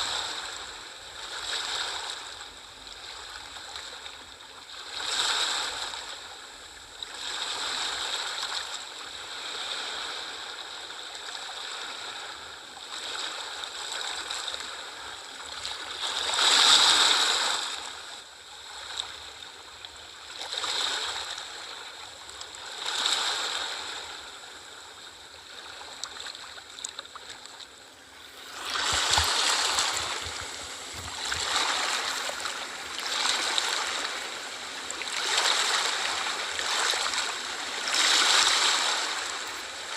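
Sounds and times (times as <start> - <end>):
sea waves washing ashore: 0.0 - 4.0, 4.8 - 6.4, 7.0 - 18.0, 22.6 - 24.8, 25.5 - 39.9.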